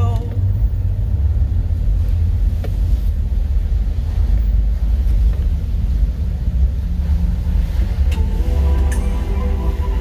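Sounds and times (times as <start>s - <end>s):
car driving slowly from inside: 0.0s - 10.0s.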